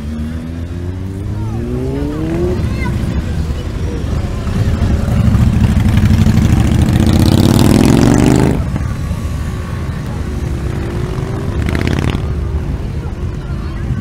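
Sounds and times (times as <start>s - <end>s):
motorcycle revving: 0.0s - 13.3s
motorcycle engines passing: 0.0s - 14.0s.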